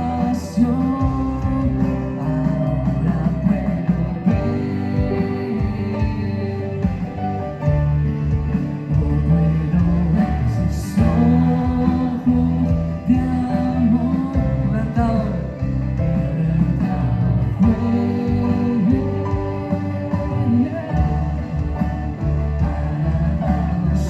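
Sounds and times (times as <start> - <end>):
guitar: 0.0 - 24.0
person singing: 0.0 - 24.0
worship band playing: 0.0 - 24.0.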